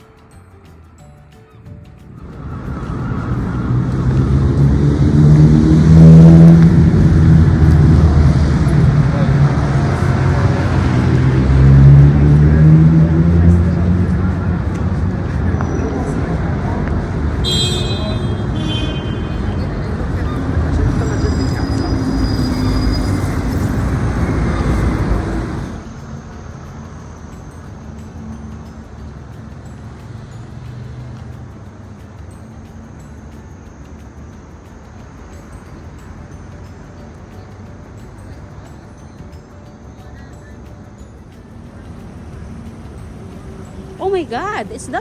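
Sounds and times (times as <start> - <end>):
quiet street background: 0.0 - 45.0
road traffic rumble: 0.0 - 45.0
vehicle engine humming: 0.0 - 45.0.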